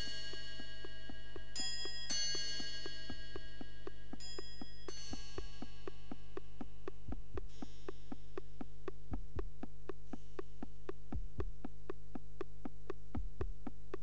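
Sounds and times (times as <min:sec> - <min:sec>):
ticking electronic beat: 0:00.0 - 0:14.0
low thumps: 0:02.6 - 0:14.0.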